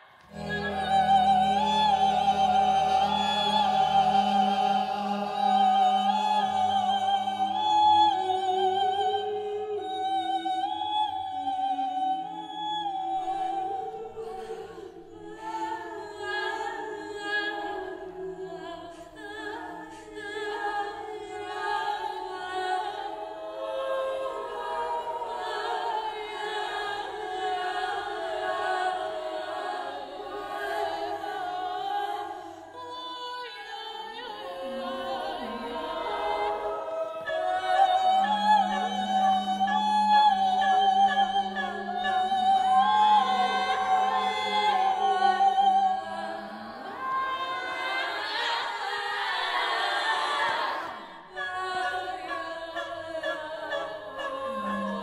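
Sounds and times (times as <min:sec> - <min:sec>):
choir singing held tones: 0:00.0 - 0:55.0.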